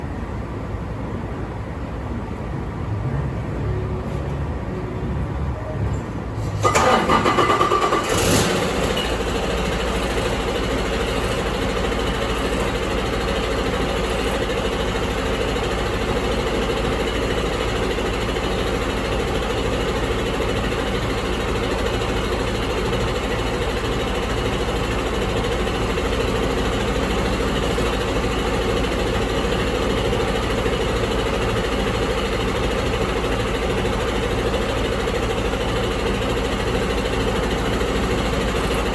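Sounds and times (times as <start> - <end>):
diesel engine idling: 0.0 - 38.9
diesel engine starter cranking: 3.1 - 38.9.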